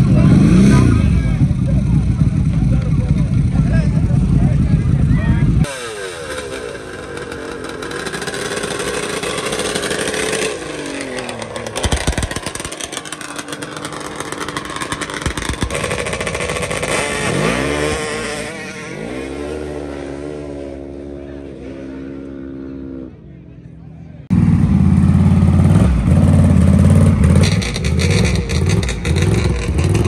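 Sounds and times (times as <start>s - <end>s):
engines revving hard: 0.0s - 2.6s, 4.5s - 22.9s, 25.5s - 30.0s.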